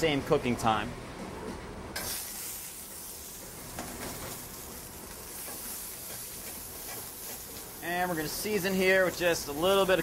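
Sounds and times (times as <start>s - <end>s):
vegetables sizzling in oil: 2.0s - 10.0s.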